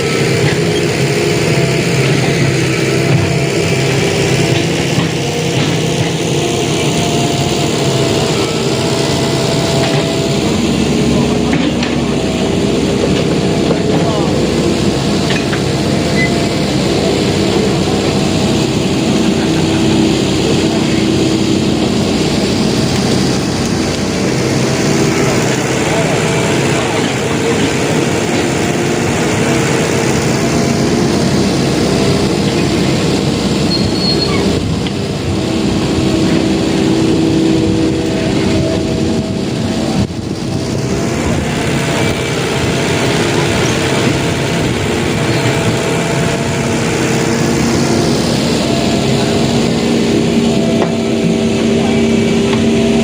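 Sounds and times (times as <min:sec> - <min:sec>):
excavator diesel engine drone: 0:00.0 - 0:53.0.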